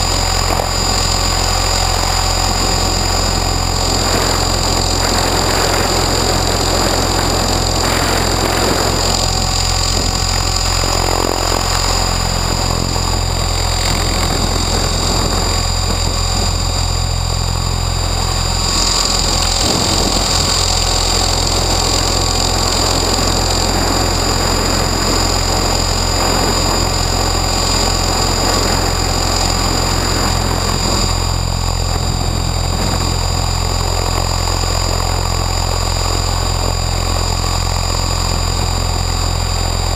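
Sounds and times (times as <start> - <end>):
electric motor whine: 0.0 - 39.9
helicopter rotor hum: 0.0 - 39.9.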